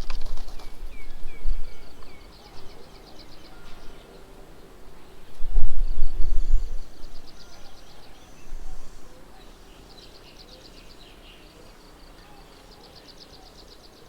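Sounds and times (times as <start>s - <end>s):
birds chirping trills: 0.0s - 14.0s.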